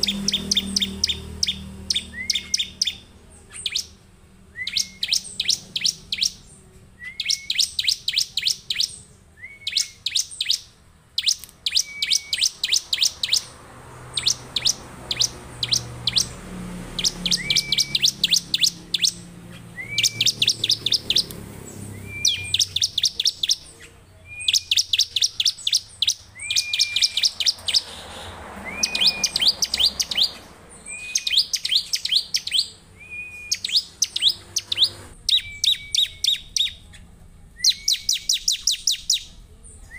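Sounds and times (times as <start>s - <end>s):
bird singing high chips: 0.0s - 39.9s.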